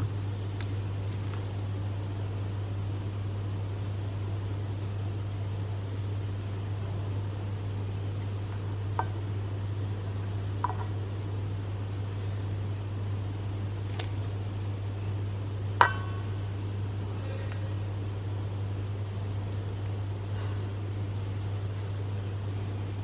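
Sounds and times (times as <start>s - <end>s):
electric fan humming: 0.0s - 23.0s.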